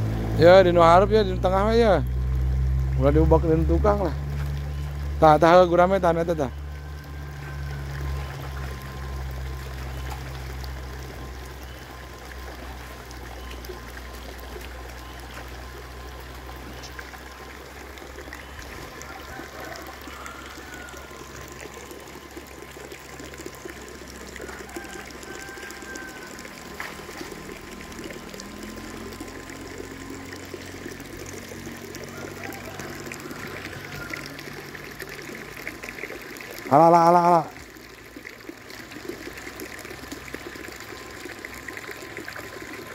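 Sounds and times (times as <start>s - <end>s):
low steady hum: 0.0s - 36.7s
muddy water trickling and sloshing: 0.0s - 42.9s.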